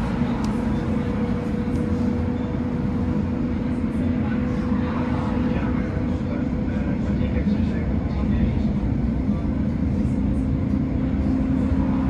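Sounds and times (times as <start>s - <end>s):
constant hum: 0.0s - 12.0s
tram rumbling on rails: 0.0s - 12.0s.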